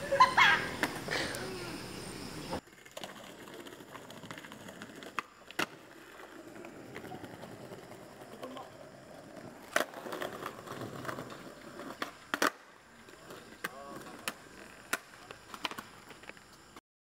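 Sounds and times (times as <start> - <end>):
skateboards clacking: 0.0 - 16.8
wheels rolling over pavers: 0.0 - 16.8.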